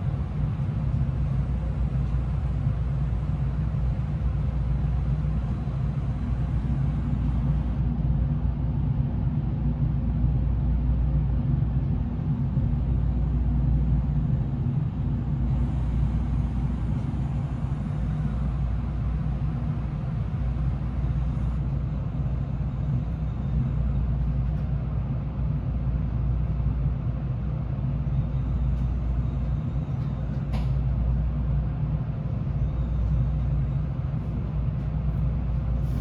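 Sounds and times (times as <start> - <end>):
low rumble and hum inside train: 0.0 - 36.0.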